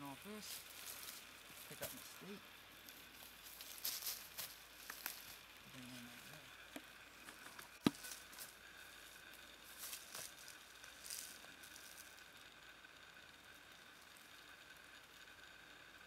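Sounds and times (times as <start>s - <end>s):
faint rustles in dry leaves: 0.0s - 15.8s.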